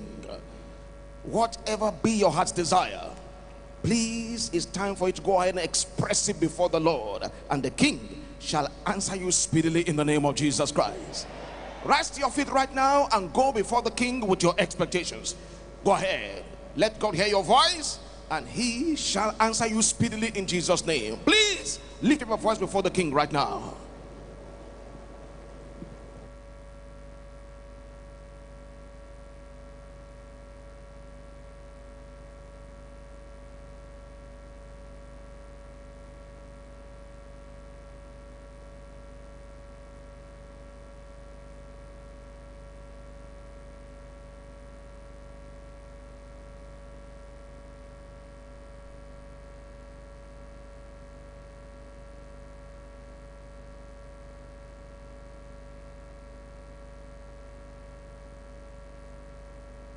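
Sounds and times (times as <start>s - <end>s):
electrical hum and buzz: 0.0s - 59.9s.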